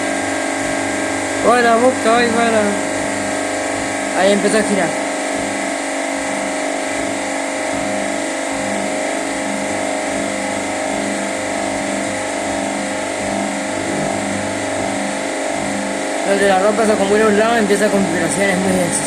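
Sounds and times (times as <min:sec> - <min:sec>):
washing machine drum spinning: 0:00.0 - 0:19.0.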